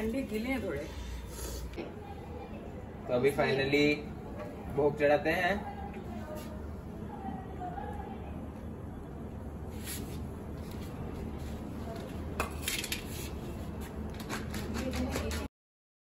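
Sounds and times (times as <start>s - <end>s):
low background hum: 0.0s - 15.5s.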